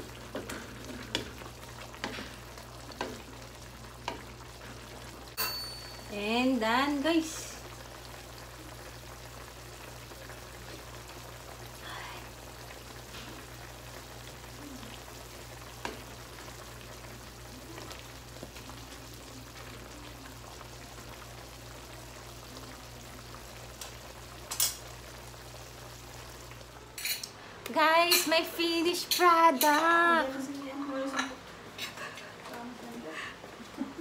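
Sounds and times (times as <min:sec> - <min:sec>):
soup bubbling in a pan: 0:00.0 - 0:27.4.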